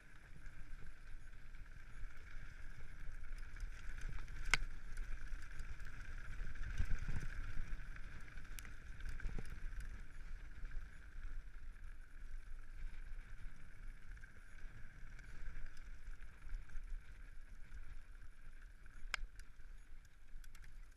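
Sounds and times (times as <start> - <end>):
bike tyres on loose gravel: 0.0 - 20.9
wind rumble on microphone: 0.0 - 20.9.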